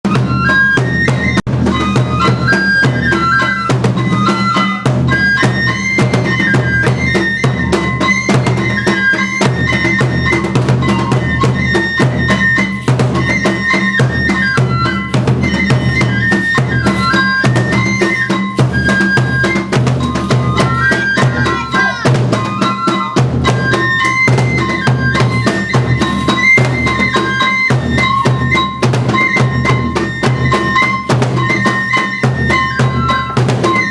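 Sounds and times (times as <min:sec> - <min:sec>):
bamboo flute melody: 0:00.0 - 0:33.9
taiko drum beats: 0:00.1 - 0:33.9.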